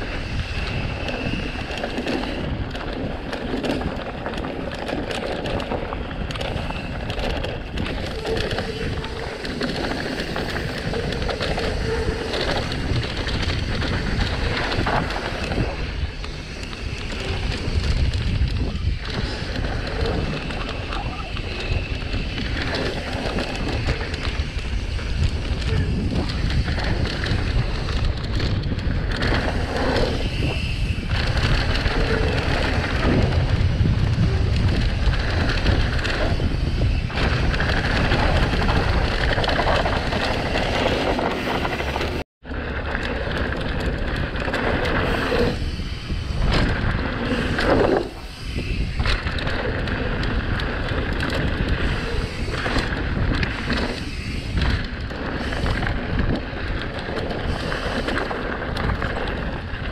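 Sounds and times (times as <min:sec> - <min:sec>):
bike tyres rattling over dirt: 0:00.0 - 0:59.9
wind on microphone: 0:00.0 - 0:59.9.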